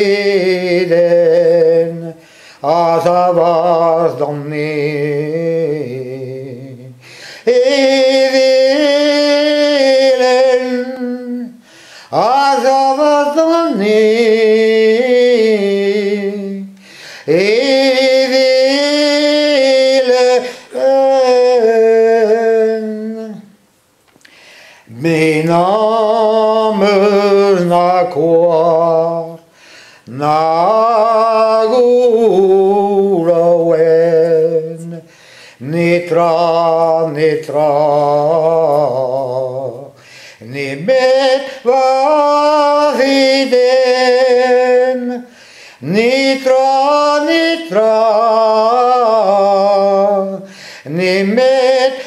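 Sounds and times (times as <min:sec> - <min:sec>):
man singing unaccompanied: 0:00.0 - 0:23.6, 0:24.8 - 0:52.0.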